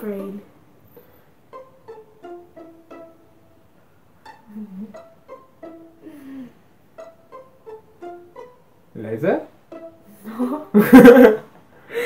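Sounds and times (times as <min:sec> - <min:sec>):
pizzicato string music: 0:00.0 - 0:12.0.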